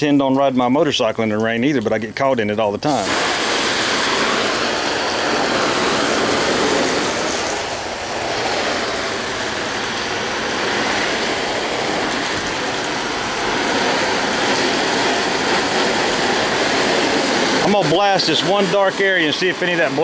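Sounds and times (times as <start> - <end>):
hose spraying water onto tarp: 0.0 - 20.0.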